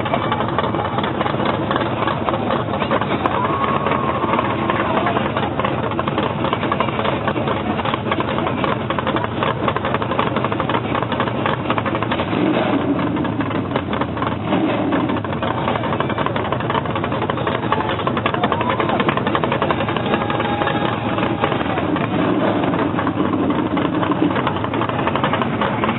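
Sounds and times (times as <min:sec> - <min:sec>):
monster truck engine running: 0:00.0 - 0:25.9.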